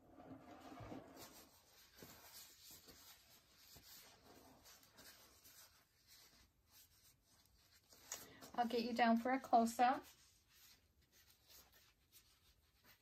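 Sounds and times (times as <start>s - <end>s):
faint scratchy rustles: 0.1s - 13.0s.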